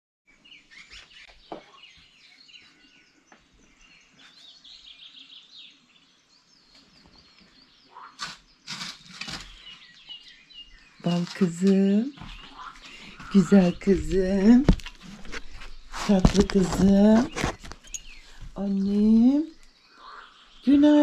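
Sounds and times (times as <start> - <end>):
songbirds chirping: 0.3 - 21.0.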